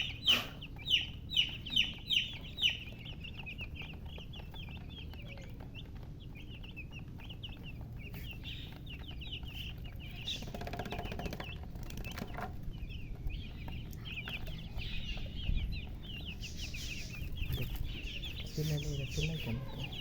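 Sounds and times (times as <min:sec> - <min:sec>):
baby chicks peeping: 0:00.0 - 0:20.0.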